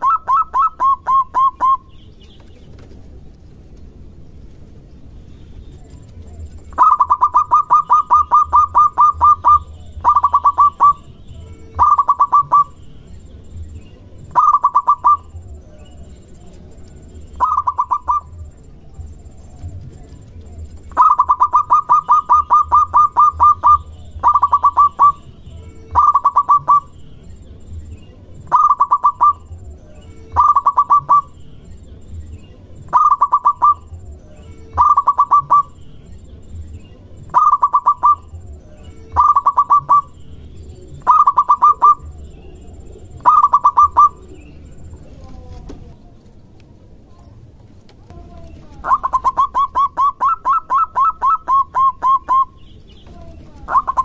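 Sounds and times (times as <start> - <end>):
dove cooing: 0.0 - 2.0, 5.6 - 12.9, 14.0 - 27.0, 28.2 - 31.4, 32.7 - 35.9, 37.0 - 46.2, 48.1 - 54.0.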